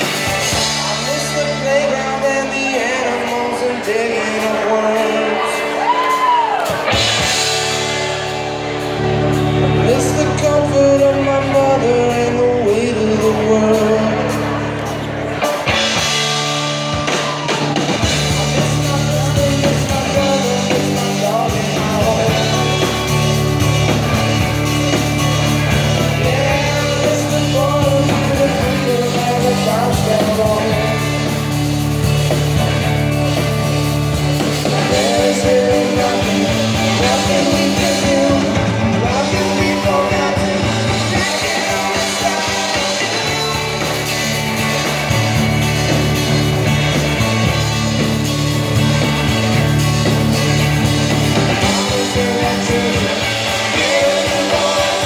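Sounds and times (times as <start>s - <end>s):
lead vocal singing: 0.0s - 15.0s, 17.0s - 31.7s, 34.2s - 44.8s, 50.5s - 55.0s
rock band playing: 0.0s - 55.0s.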